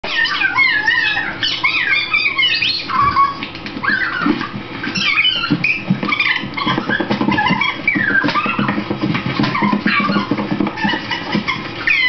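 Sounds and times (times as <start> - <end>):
high-pitched squeaky voice squealing: 0.0 - 8.8, 9.4 - 12.0.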